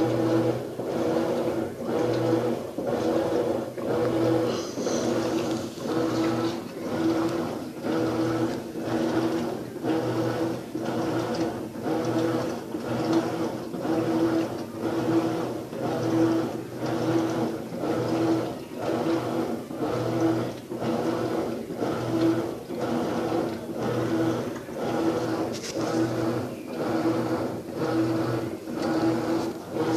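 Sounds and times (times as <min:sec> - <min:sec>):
washing machine agitating: 0:00.0 - 0:29.9.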